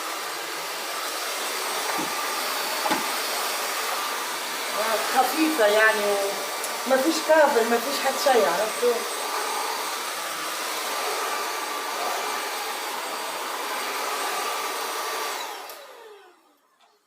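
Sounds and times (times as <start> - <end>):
vacuum cleaner motor whine: 0.0 - 16.8.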